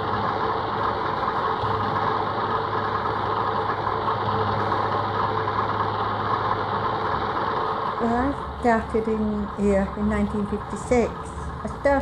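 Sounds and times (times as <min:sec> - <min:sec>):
sewing machine whirring: 0:00.0 - 0:12.0.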